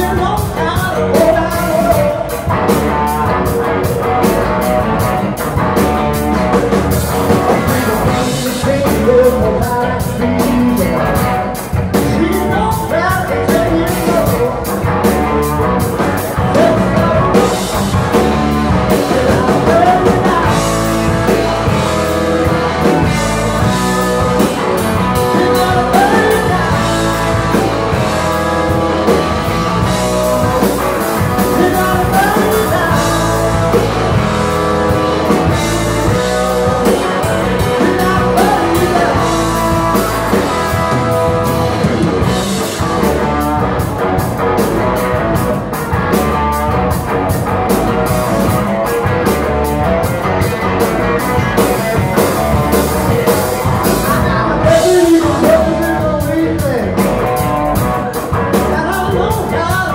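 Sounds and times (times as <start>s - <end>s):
man singing: 0.0s - 5.1s, 6.1s - 43.8s, 50.4s - 59.9s
bass guitar: 0.0s - 59.9s
drum kit with cymbals: 0.0s - 59.9s
electric guitars: 0.0s - 59.9s.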